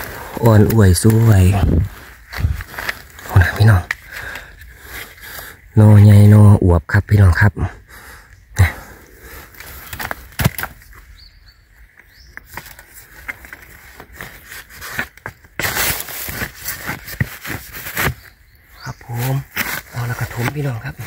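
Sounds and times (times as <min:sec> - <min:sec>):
digging and scraping soil: 0:00.0 - 0:06.4, 0:08.6 - 0:11.1, 0:12.0 - 0:21.0.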